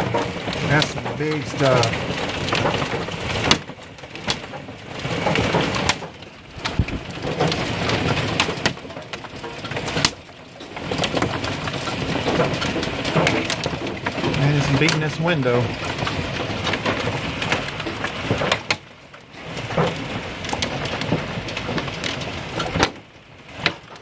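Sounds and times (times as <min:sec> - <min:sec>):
hail clattering on window and deck: 0:00.0 - 0:24.0.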